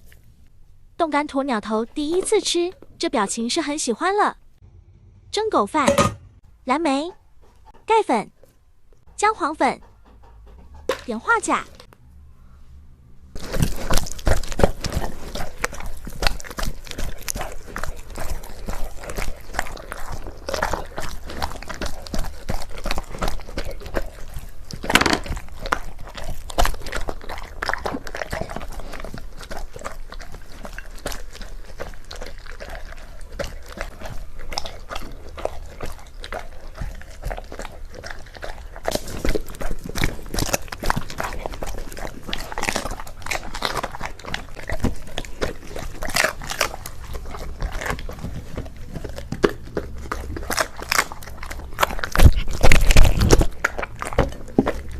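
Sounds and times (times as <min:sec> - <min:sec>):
dog chewing and crunching food: 0:00.0 - 0:04.2, 0:06.7 - 0:12.0, 0:13.3 - 0:54.9.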